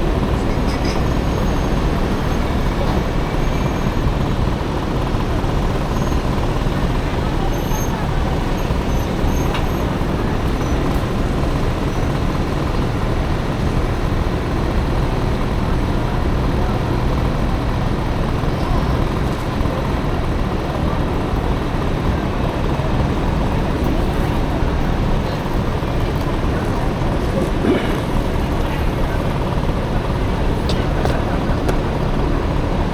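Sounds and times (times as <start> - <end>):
scooter engine rumble: 0.0 - 32.9
traffic noise: 0.0 - 32.9.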